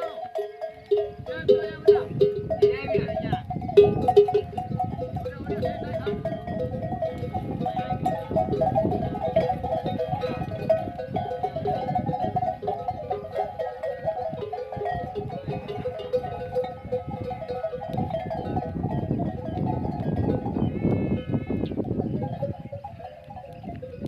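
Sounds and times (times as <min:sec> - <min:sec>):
camel bells jangling: 0:00.0 - 0:24.0.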